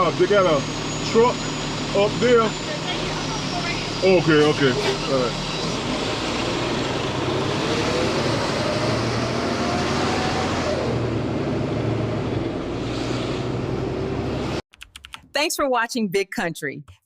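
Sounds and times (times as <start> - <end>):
road noise: 0.0 - 14.6
truck engine: 0.0 - 14.6.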